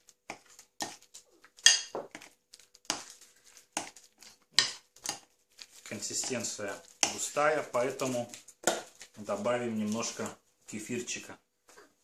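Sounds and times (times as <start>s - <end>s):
fork stirring thick mixture: 0.0s - 10.2s.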